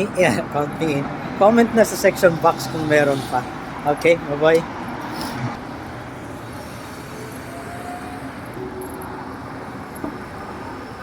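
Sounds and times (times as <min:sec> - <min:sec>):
traffic rumbling hum: 0:00.0 - 0:11.0.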